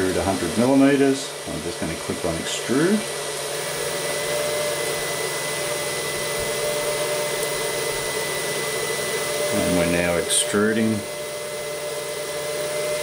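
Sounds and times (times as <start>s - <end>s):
stepper motor whine: 0.0s - 13.0s.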